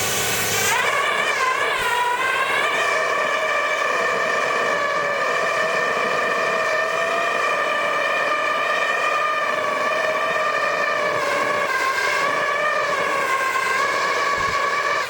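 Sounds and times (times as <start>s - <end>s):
pitched howl of air through pipe: 0.0s - 15.0s.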